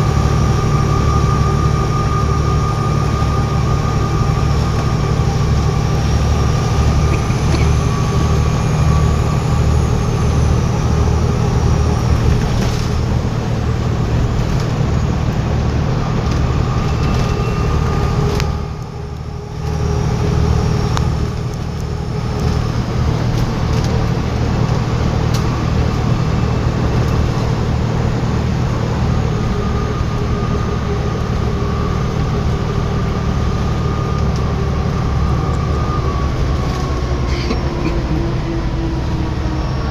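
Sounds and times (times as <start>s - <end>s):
diesel bus engine throbbing: 0.0s - 39.9s.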